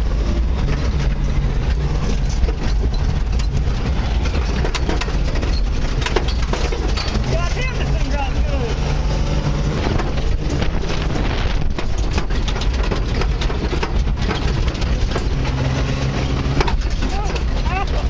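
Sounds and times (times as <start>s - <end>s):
knocks and rattles of truck: 0.0s - 18.0s
truck engine running hard: 0.0s - 18.0s.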